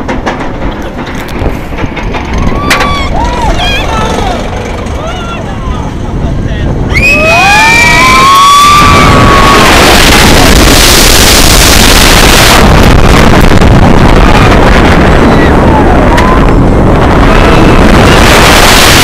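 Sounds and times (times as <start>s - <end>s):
roller coaster rumbling on track: 0.0s - 19.0s
wind rushing over microphone: 0.0s - 19.0s.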